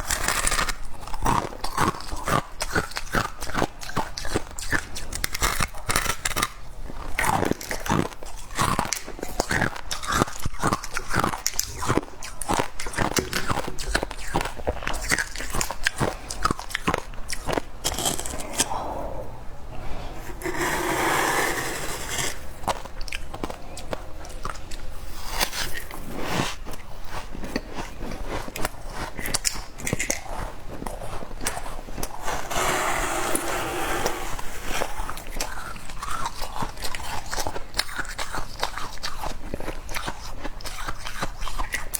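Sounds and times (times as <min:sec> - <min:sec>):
frost crunching while chewed: 0:00.0 - 0:18.7, 0:22.6 - 0:32.5, 0:34.7 - 0:41.9.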